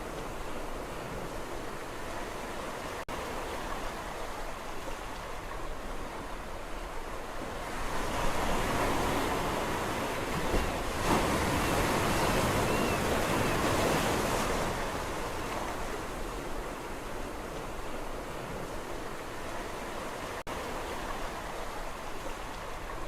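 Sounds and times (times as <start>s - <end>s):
sea waves washing onto shore: 0.0s - 23.0s.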